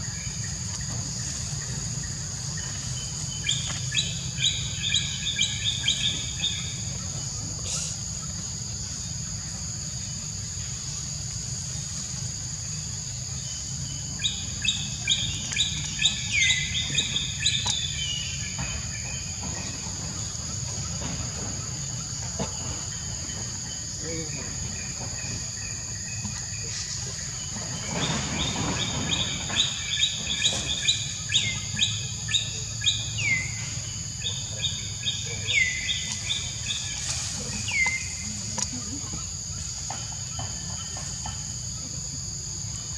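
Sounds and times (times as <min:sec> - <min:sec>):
birds chirping: 0:00.0 - 0:10.8, 0:12.1 - 0:42.9.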